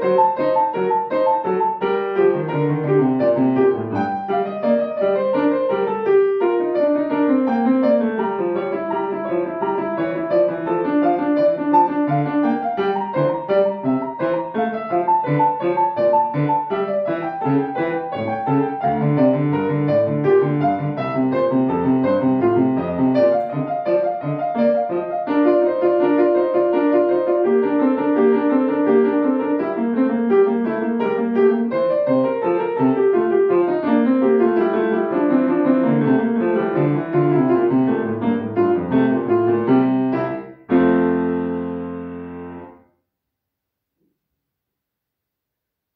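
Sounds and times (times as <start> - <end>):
solo piano playing classical piece: 0.0 - 43.0.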